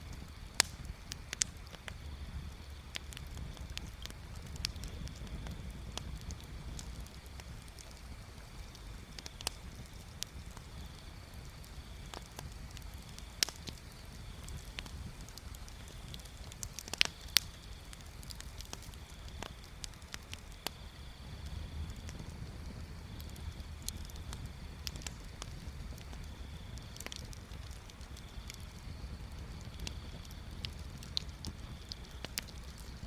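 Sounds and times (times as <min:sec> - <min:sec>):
bonfire crackling and popping: 0:00.0 - 0:33.0.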